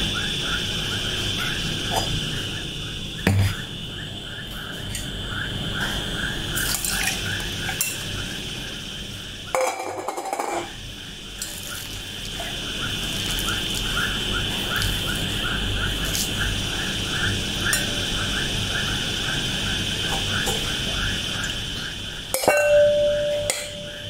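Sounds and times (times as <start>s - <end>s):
frogs: 0.0s - 24.0s
insects buzzing and chirping: 0.0s - 24.0s.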